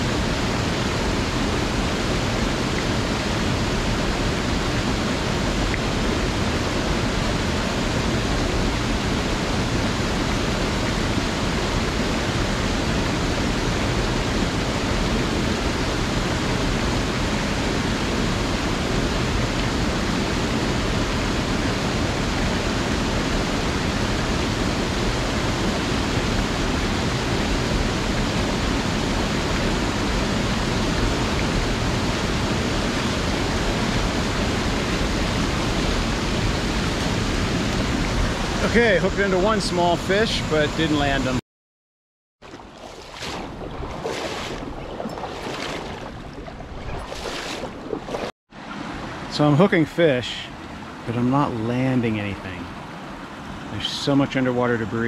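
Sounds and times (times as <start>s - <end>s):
creek water flowing: 0.0s - 41.4s, 42.4s - 55.0s.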